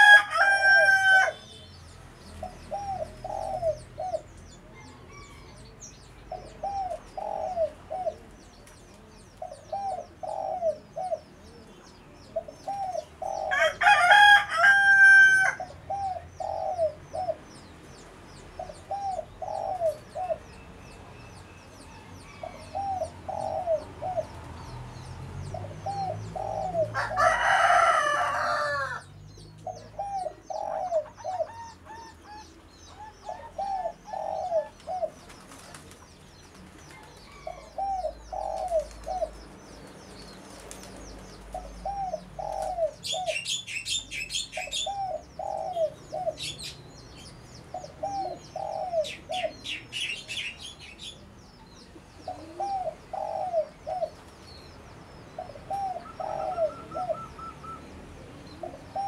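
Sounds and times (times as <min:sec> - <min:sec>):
dove cooing: 0:00.0 - 0:01.7, 0:02.4 - 0:17.5, 0:18.6 - 0:20.7, 0:21.9 - 0:24.7, 0:25.4 - 0:36.0, 0:36.8 - 0:39.4, 0:40.5 - 0:54.3, 0:55.3 - 0:59.0
small birds twittering: 0:01.2 - 0:59.0.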